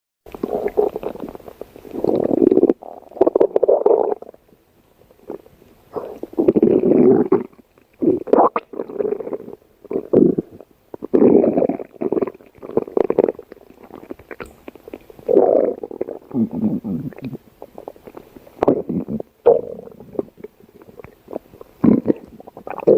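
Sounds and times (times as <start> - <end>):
stomach growling: 0.3 - 4.4, 5.2 - 22.9.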